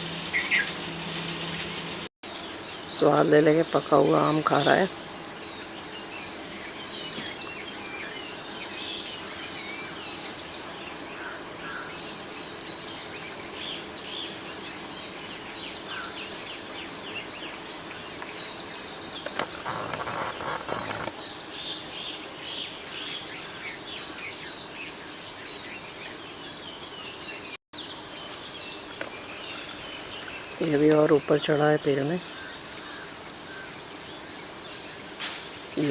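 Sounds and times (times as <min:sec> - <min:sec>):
insects chorus: 0:00.0 - 0:35.9.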